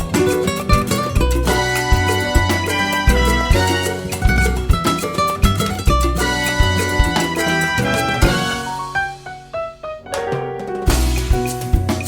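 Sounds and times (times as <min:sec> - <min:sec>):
latin style background music: 0:00.0 - 0:12.0.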